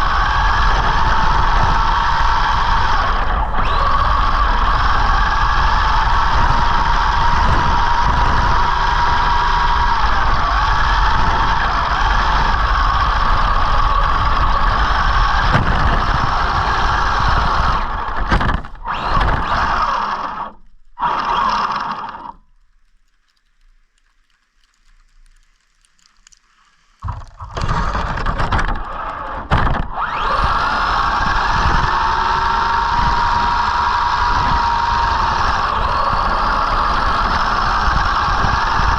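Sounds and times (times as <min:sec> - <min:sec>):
tyres rumbling through snow: 0:00.0 - 0:22.3, 0:27.0 - 0:38.9
electric motor whining: 0:00.0 - 0:22.5, 0:27.0 - 0:38.9.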